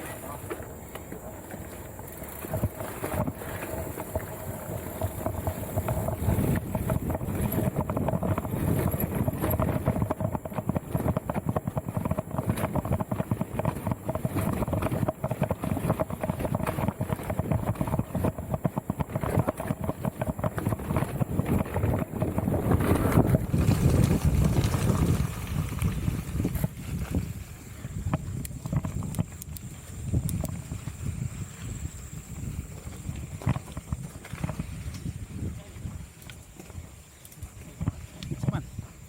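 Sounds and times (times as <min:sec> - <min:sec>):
mountain bike rattling on rough trail: 0:00.0 - 0:39.0
wind rumbling on microphone: 0:00.0 - 0:39.0.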